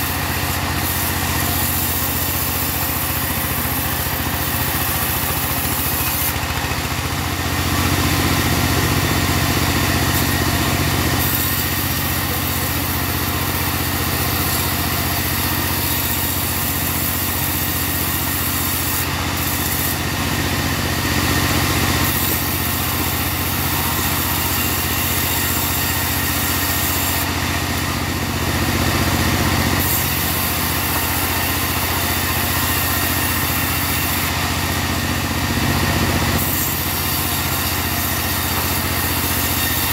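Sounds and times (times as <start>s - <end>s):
bandsaw sawmill sawing log: 0.0s - 39.9s.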